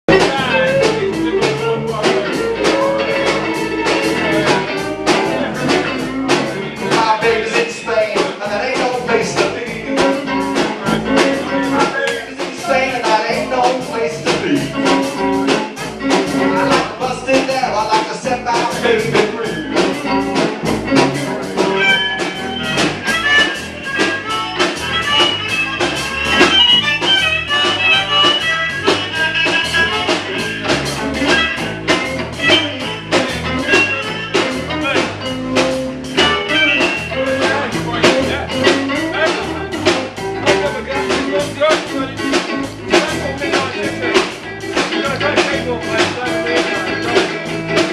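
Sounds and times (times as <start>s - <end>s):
band playing blues: 0.0s - 47.9s
lead guitar line: 0.1s - 47.9s.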